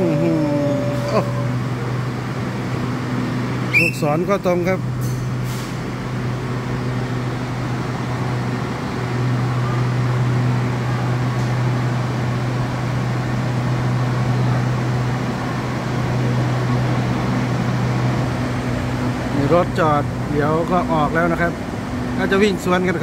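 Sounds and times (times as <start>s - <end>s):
train equipment humming: 0.0s - 22.2s.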